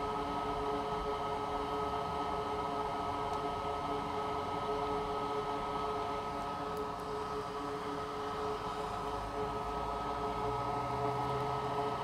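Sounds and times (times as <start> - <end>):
small fan motor whine: 0.0 - 12.0.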